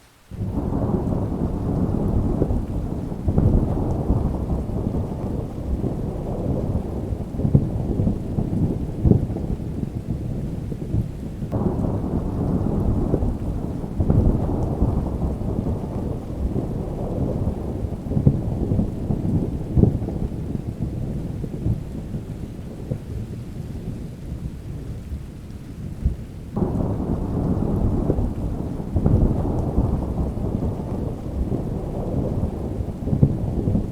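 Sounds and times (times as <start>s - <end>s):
rain falling: 0.0s - 33.9s
thunder rumbling: 0.3s - 33.9s.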